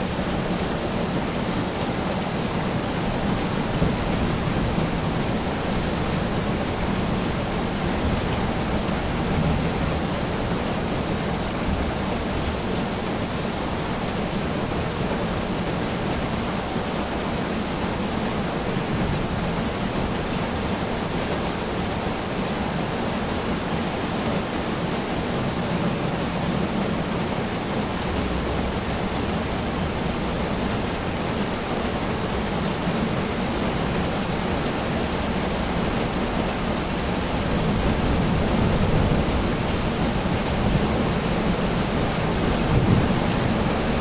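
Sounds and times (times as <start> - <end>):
heavy rain hiss: 0.0 - 44.0.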